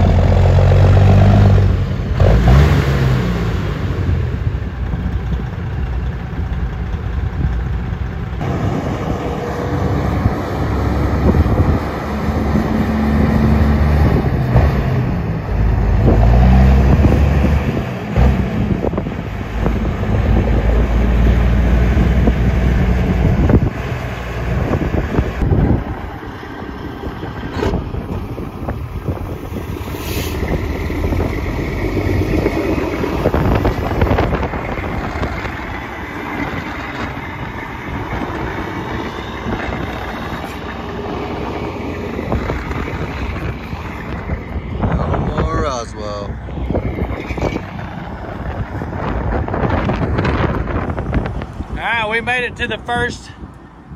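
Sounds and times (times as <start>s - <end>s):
diesel truck engine accelerating: 0.0s - 53.9s
wind on microphone: 8.5s - 52.5s.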